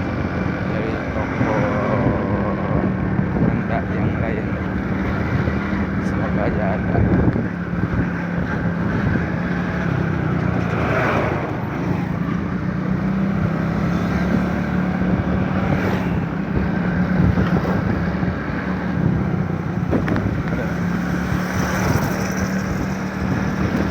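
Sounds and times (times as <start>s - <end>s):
vehicle engine running: 0.0s - 23.9s
wind buffeting microphone: 0.0s - 23.9s.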